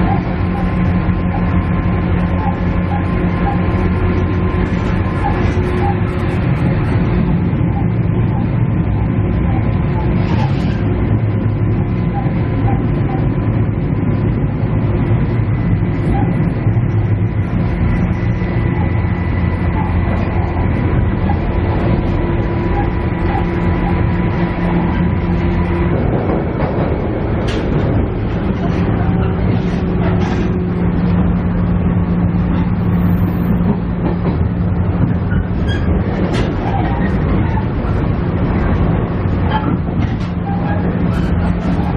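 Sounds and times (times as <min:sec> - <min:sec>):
diesel engine drone: 0:00.0 - 0:41.9
wheels on rails: 0:00.0 - 0:41.9.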